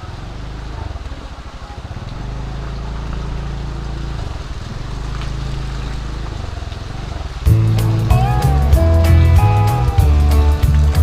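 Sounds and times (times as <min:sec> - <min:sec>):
heavy rain: 0:00.0 - 0:11.0
motorcycle engine riding: 0:00.0 - 0:11.0
wind: 0:00.0 - 0:11.0.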